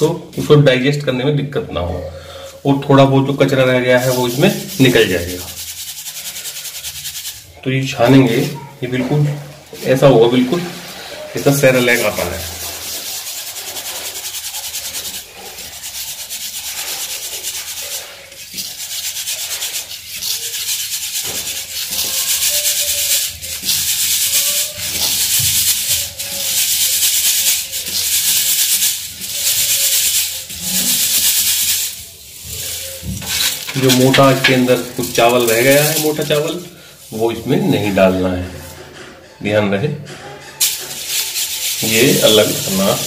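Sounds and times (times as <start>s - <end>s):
flour rasping through a sieve: 2.3s - 39.1s, 40.6s - 43.0s.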